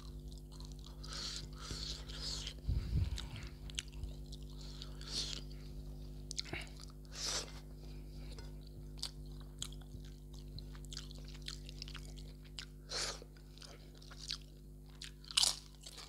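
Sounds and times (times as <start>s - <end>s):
chewing mouth sounds: 0.0s - 7.7s, 8.3s - 16.0s
steady low hum: 0.0s - 16.0s.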